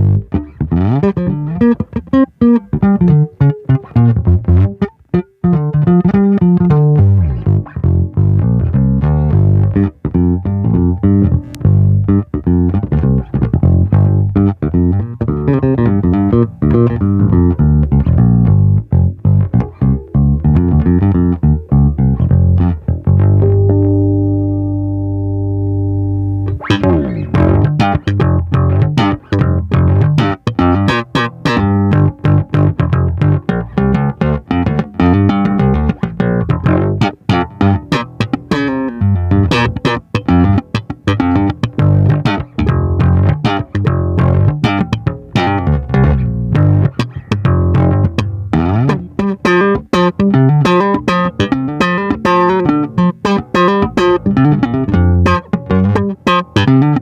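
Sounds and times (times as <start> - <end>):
electric bass plucked notes: 0.0 - 57.0.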